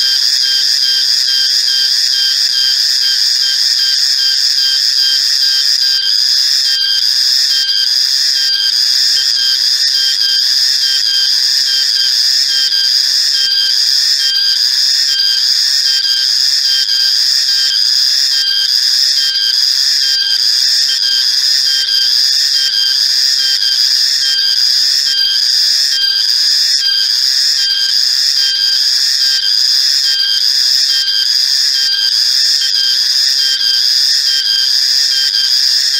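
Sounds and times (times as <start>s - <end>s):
cicada drone: 0.0s - 35.9s.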